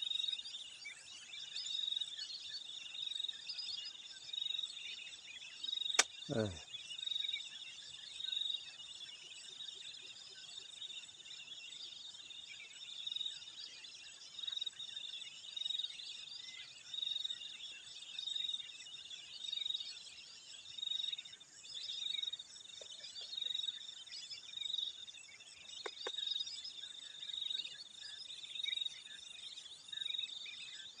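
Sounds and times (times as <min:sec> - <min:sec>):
insects chirping: 0:00.1 - 0:31.0.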